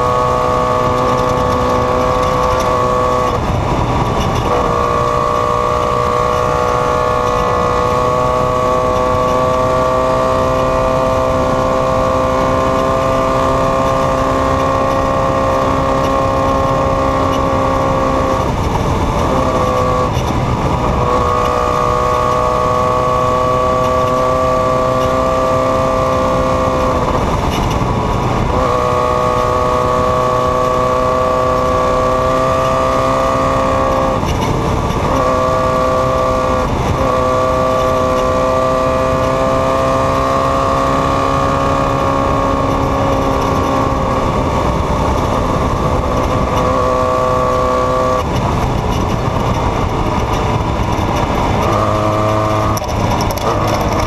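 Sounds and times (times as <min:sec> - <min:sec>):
race engine running hard: 0:00.0 - 0:54.0.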